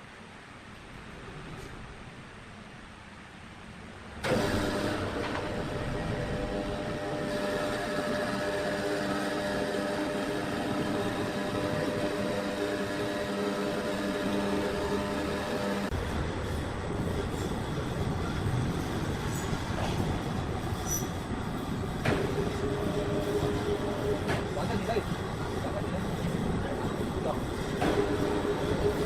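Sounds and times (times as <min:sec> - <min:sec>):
sawmill machinery humming and rumbling: 0:00.0 - 0:29.0.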